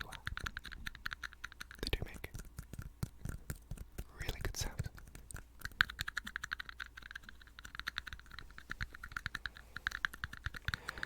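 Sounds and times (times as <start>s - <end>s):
fast tapping on plastic cups: 0.0s - 11.0s.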